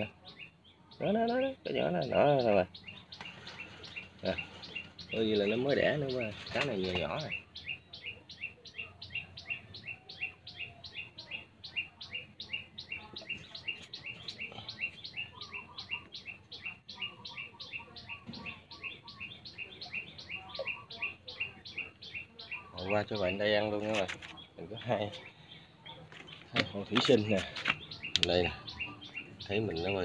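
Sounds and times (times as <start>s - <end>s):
bird chirping: 0.0s - 30.0s.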